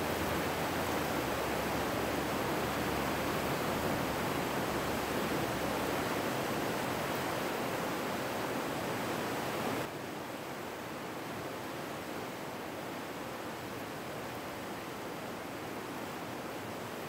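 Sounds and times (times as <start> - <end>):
flooded river roaring: 0.0 - 17.0.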